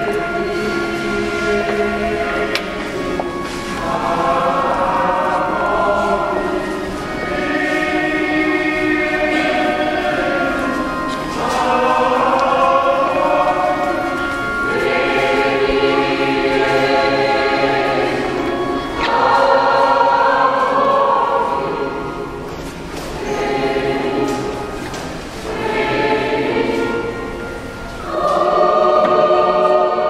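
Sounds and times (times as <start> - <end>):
choir singing a hymn: 0.0 - 30.0.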